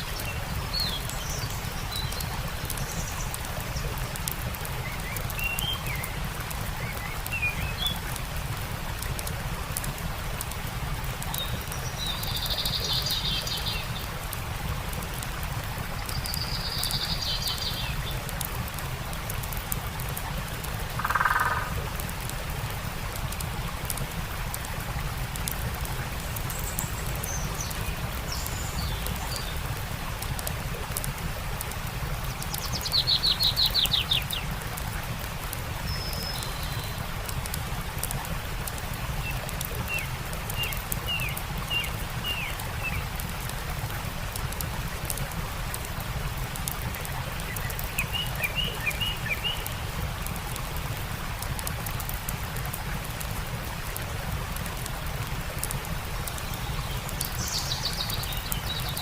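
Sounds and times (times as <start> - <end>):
campfire crackling: 0.0 - 59.0
stream running: 0.0 - 59.0.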